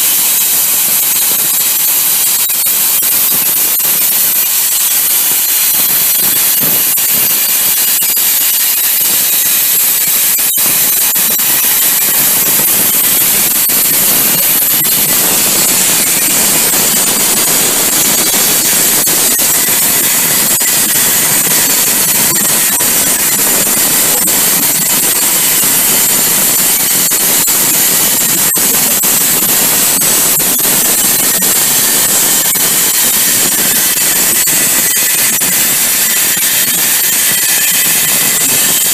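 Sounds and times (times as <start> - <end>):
plasma arc cutting hiss: 0.0 - 38.9.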